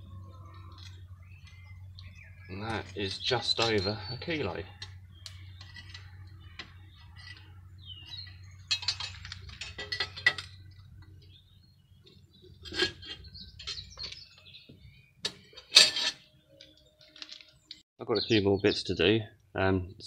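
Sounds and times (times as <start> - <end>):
bird chirping: 0.0 - 19.3.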